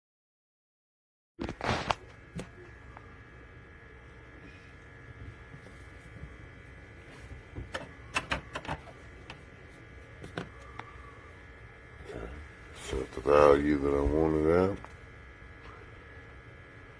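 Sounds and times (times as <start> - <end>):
fans humming: 1.4 - 16.9.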